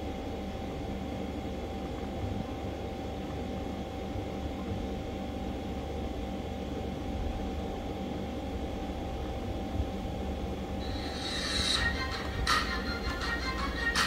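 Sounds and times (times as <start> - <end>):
faint constant whine: 0.0 - 14.0
machine hum with low rumble: 0.0 - 14.0.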